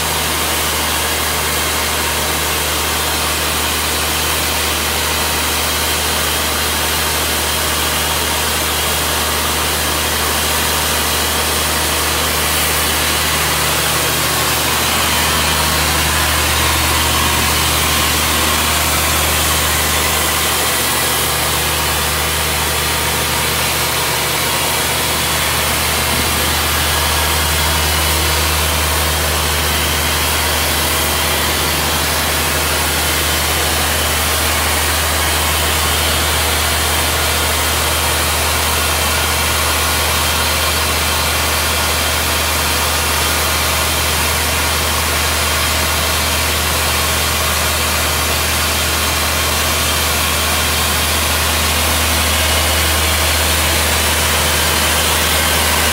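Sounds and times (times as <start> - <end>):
deep engine drone: 0.0 - 55.9.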